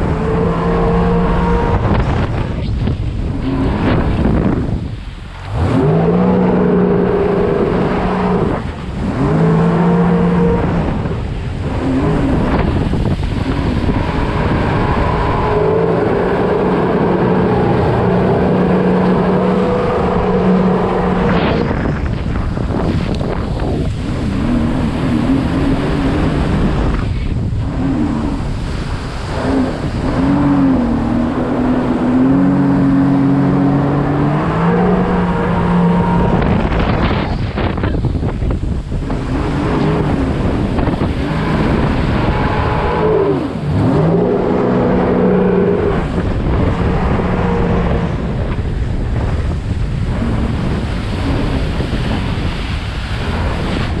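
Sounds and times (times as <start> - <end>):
jet ski engine revving: 0.0 - 54.0
wind buffeting microphone: 0.0 - 54.0.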